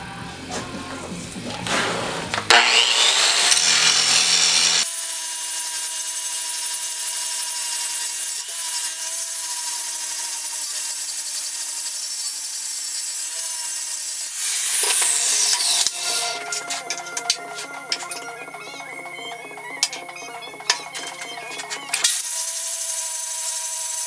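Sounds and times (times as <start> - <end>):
angle grinder grinding metal: 0.5 - 24.0.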